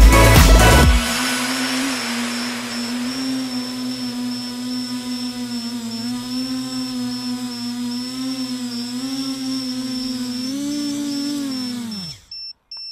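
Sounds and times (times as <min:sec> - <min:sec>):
high whine: 0:00.0 - 0:12.2
drone motors humming: 0:00.0 - 0:12.3.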